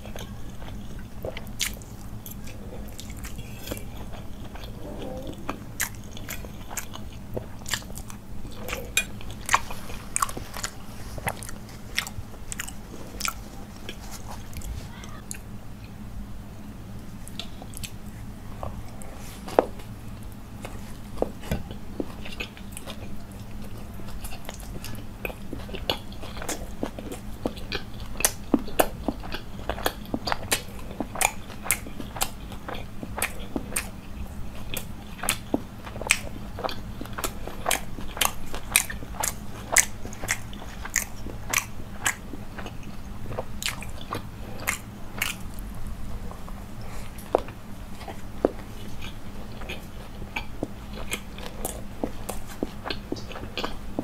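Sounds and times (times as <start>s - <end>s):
low hum: 0.0s - 54.0s
man chewing food: 0.0s - 54.0s.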